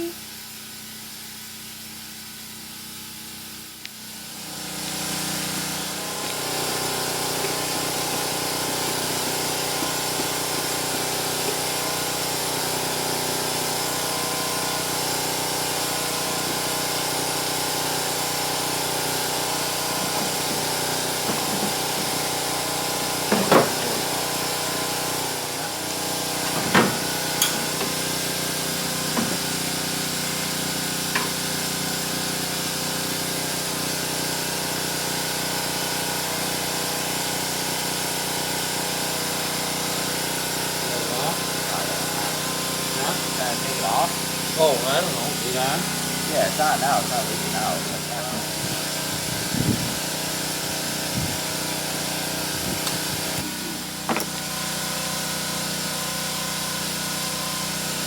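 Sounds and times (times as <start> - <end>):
motor-driven machine running: 0.0 - 58.0.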